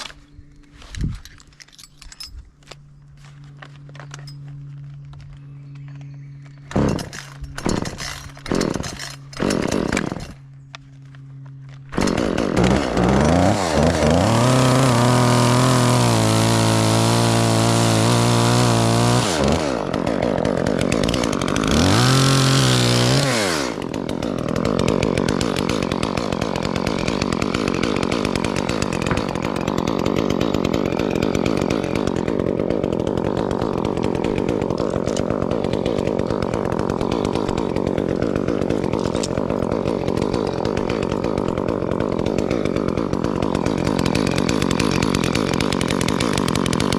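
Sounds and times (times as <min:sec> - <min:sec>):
chainsaw engine revving and idling: 0:06.5 - 0:46.9.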